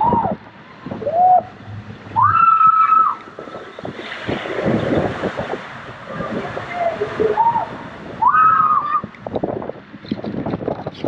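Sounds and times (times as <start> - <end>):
wind noise on microphone: 0.0 - 11.0
rushing splashing water: 0.4 - 9.3.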